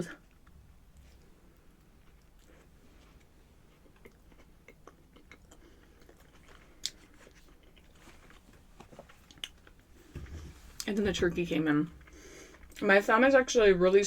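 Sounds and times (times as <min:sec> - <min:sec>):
person chewing food: 0:00.2 - 0:10.9, 0:11.9 - 0:12.8.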